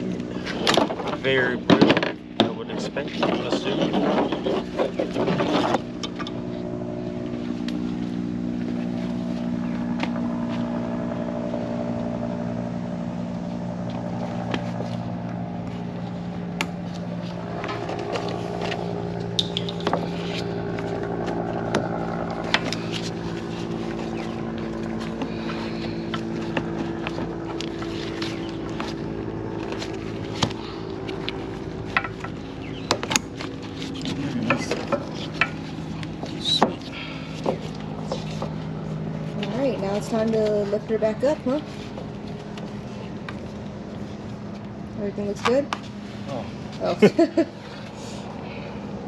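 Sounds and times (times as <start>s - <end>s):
engine humming: 0.0s - 49.0s.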